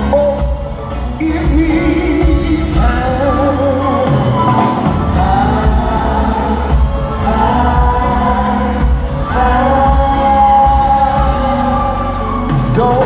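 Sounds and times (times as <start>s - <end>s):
bass: 0.0s - 13.0s
drums: 0.0s - 13.0s.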